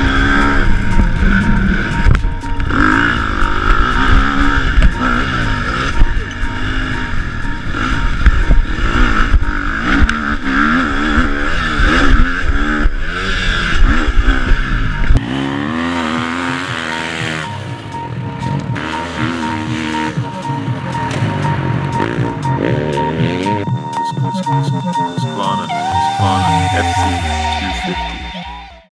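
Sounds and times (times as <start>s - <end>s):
motocross bike engine revving: 0.0s - 23.7s.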